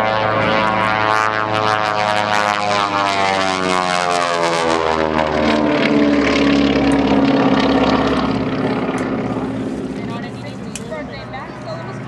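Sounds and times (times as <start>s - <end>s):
radial aircraft engines running: 0.0s - 12.0s.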